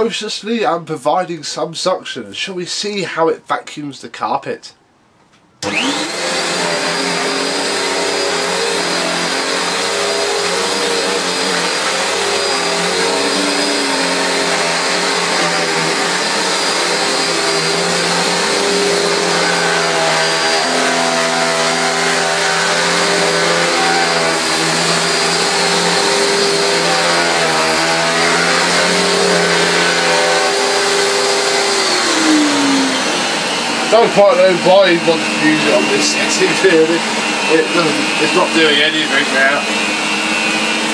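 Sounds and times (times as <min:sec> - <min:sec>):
vacuum cleaner motor whining: 0:05.6 - 0:40.9.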